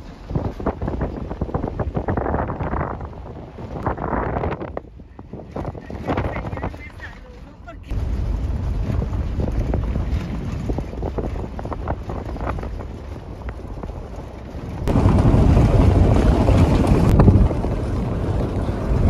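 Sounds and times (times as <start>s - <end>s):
moving vehicle rumble: 0.0s - 19.0s
wind buffeting microphone: 0.0s - 19.0s.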